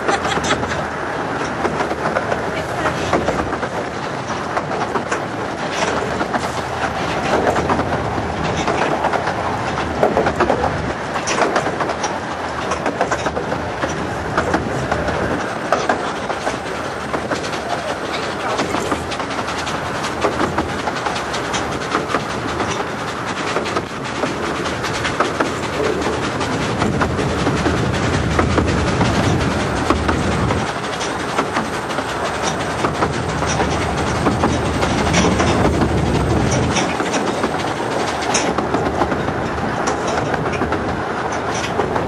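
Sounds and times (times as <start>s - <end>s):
clacks from rail joints: 0.0s - 42.0s
train wheels rattling on rails: 0.0s - 42.0s.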